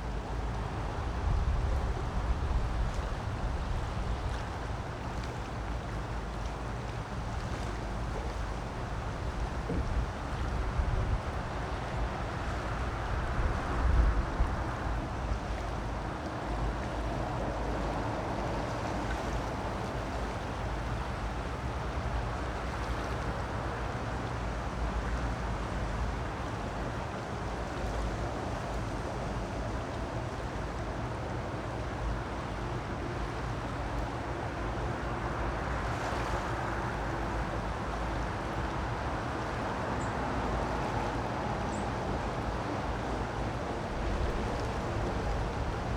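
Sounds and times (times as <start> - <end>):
creek water rushing: 0.0 - 45.9.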